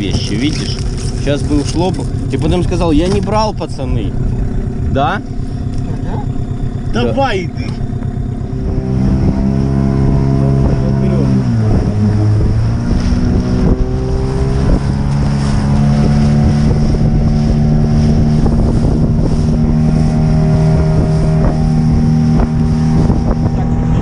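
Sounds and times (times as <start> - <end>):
motorboat engine revving: 0.0 - 24.0.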